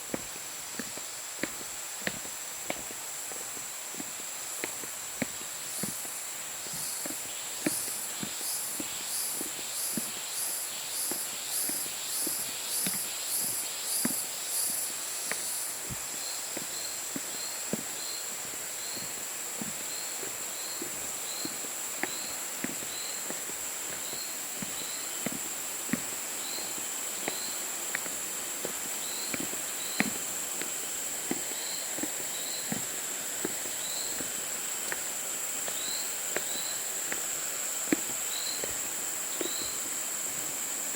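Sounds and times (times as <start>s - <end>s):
footsteps on trail: 0.0s - 40.9s
insects droning: 0.0s - 40.9s
pulsing insect call: 5.3s - 40.7s
short insect chirps: 5.4s - 40.9s.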